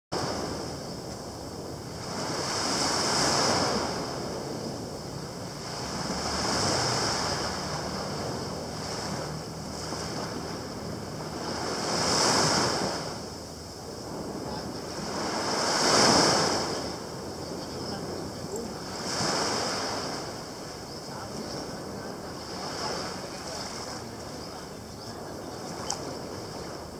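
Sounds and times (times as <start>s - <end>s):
small waves breaking on sand: 0.1s - 26.9s.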